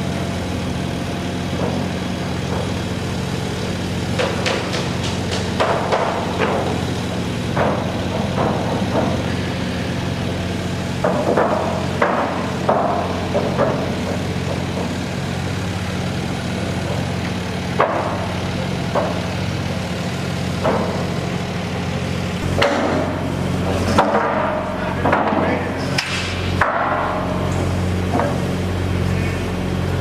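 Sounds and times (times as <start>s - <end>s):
machine humming: 0.0s - 30.0s
sharp knocks and clanks: 1.4s - 29.3s.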